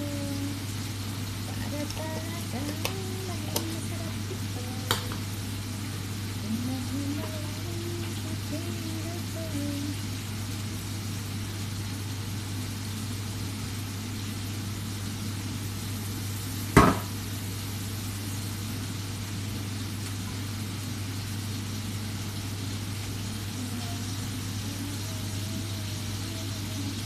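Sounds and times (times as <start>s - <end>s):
chicken sizzling in a pan: 0.0s - 27.0s
low constant hum: 0.0s - 27.0s.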